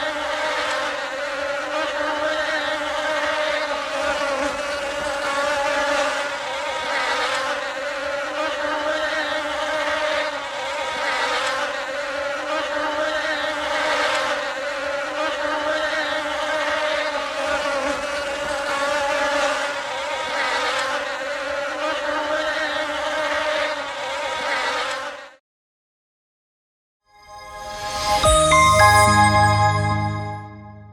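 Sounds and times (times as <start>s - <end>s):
bee buzzing in flight: 0.0s - 25.3s.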